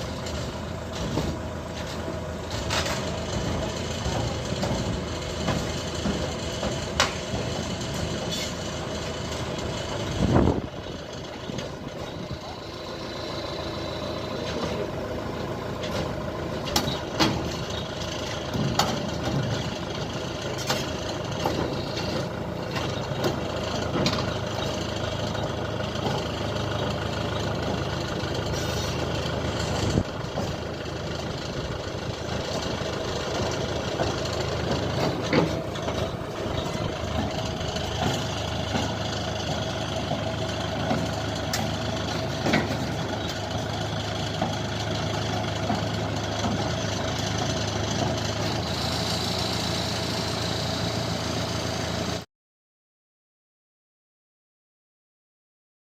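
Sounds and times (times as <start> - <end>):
drilling rig engine running: 0.0 - 52.2.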